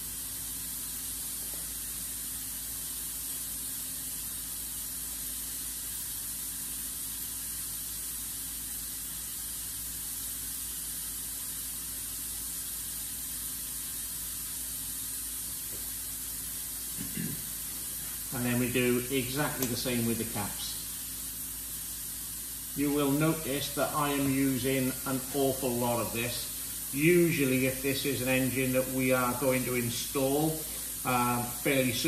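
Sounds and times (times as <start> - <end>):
steady hiss: 0.0 - 32.0.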